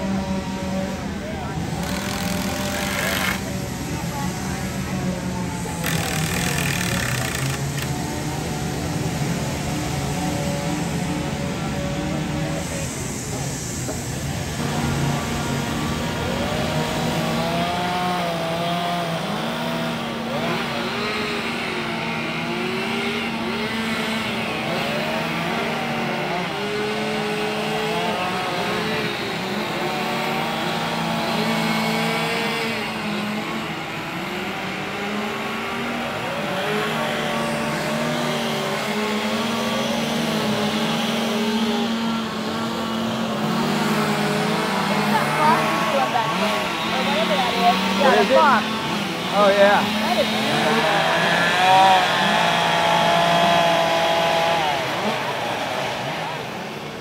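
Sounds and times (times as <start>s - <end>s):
chainsaws revving and cutting: 0.0s - 57.0s.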